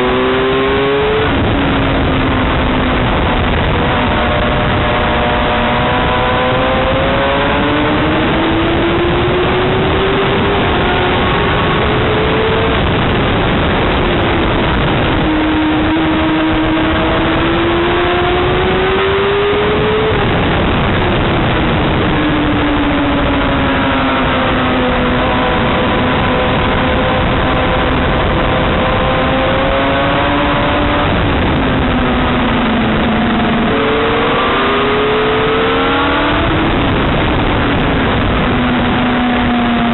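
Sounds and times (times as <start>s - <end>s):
motorcycle engine revving: 0.0s - 39.9s
rushing noise: 0.0s - 39.9s.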